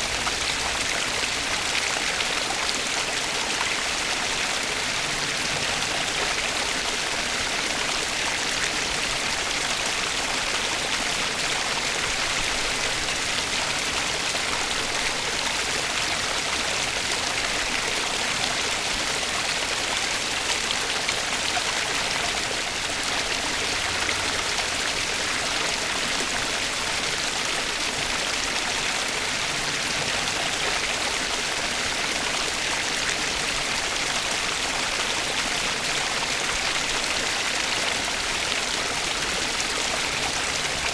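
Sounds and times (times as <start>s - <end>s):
flowing water rushing: 0.0s - 40.9s.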